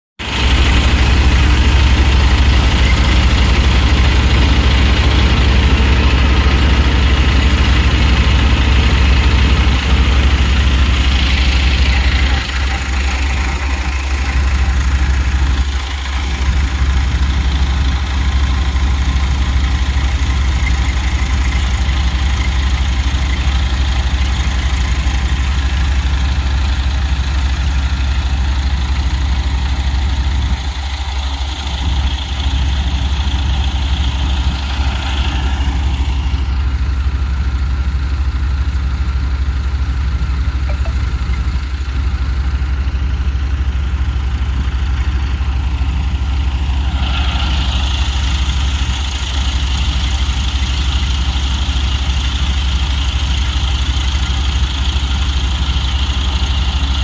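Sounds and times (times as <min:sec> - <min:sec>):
tractor engine running: 0:00.2 - 0:57.0.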